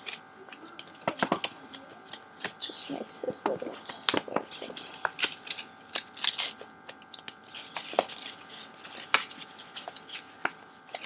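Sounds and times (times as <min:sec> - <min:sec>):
faint steady hum: 0:00.0 - 0:11.0
paper being folded: 0:00.0 - 0:11.0.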